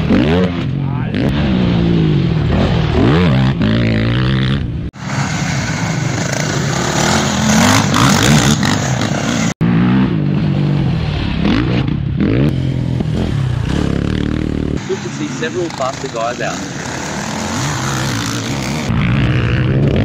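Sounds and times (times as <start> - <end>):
quad engines revving hard: 0.0 - 4.6, 5.8 - 10.2, 11.4 - 20.0.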